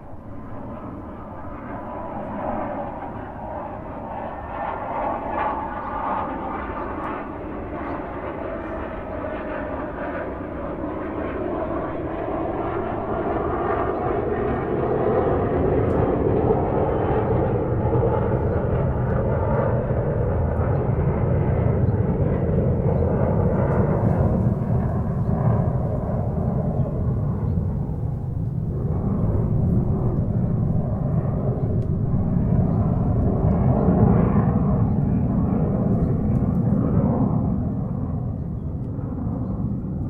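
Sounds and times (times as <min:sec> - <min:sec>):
airplane cabin engine rush: 0:06.8 - 0:40.0.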